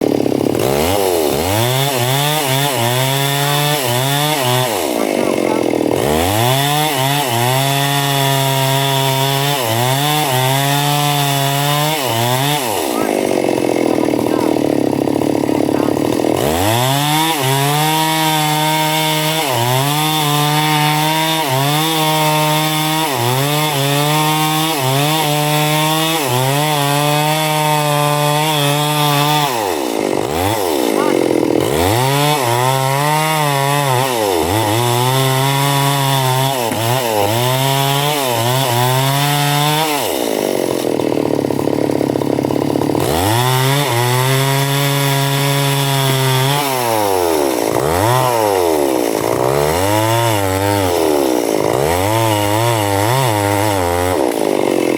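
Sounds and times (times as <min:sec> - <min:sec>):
chainsaw engine bogging down: 0:00.0 - 0:34.7, 0:40.2 - 0:54.9.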